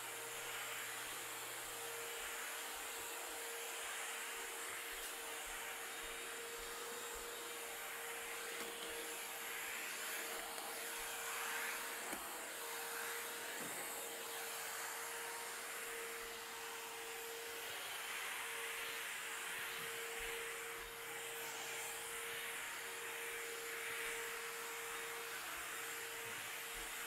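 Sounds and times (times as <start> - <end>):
suction hiss: 0.0 - 27.0
vacuum mop motor whine: 0.0 - 27.0.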